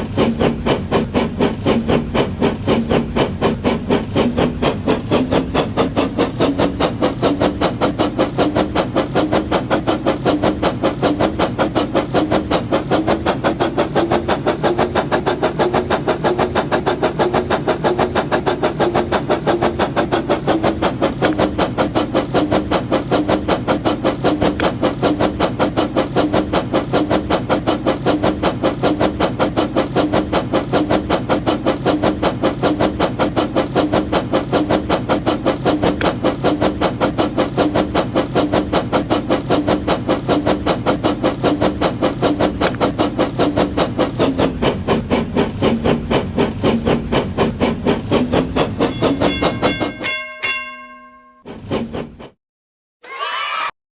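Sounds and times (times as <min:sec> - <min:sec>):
toy steam locomotive running: 0:00.0 - 0:52.4.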